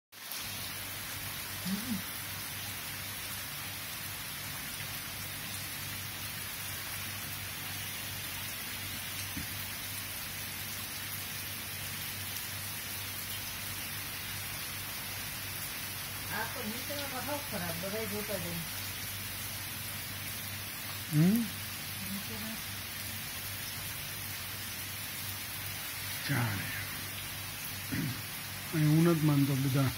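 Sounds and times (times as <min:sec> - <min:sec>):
steady rain falling: 0:00.1 - 0:29.9.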